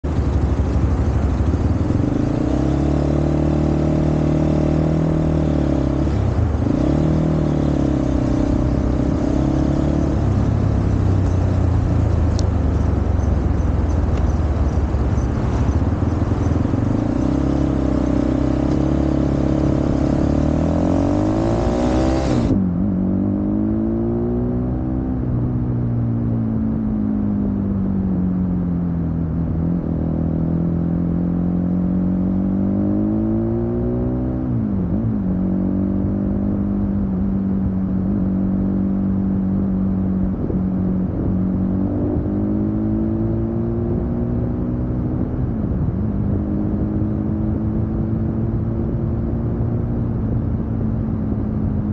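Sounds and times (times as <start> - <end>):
motorcycle engine revving: 0.0 - 28.4, 29.5 - 51.9.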